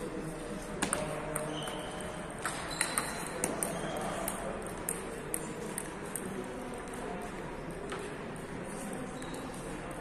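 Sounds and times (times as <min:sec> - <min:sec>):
murmur of voices: 0:00.0 - 0:10.0.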